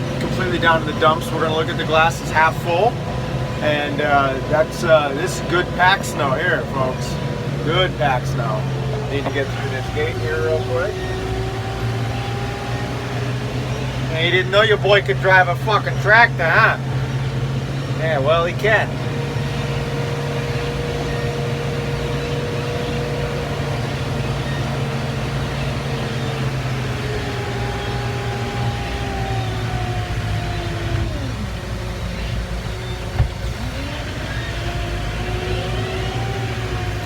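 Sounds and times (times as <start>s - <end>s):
tractor engine whining: 0.0s - 37.0s.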